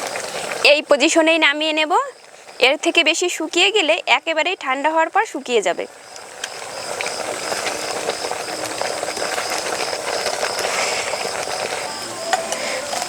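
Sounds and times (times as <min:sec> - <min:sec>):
milk boiling in a pan: 0:00.0 - 0:13.0.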